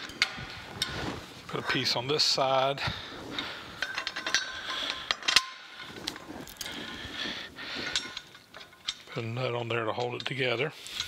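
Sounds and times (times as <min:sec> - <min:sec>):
steel parts clinking and rattling: 0:00.0 - 0:11.0.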